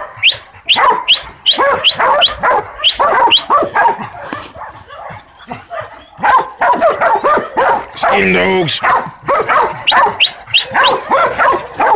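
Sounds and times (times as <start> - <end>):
young dogs barking rapidly: 0.0 - 11.9.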